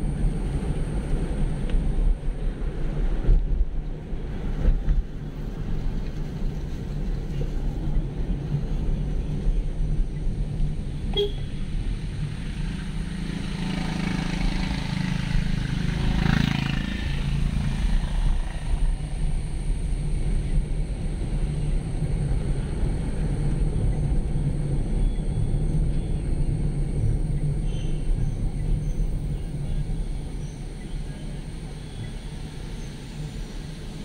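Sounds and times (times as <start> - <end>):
car engine and road drone: 0.0 - 34.0.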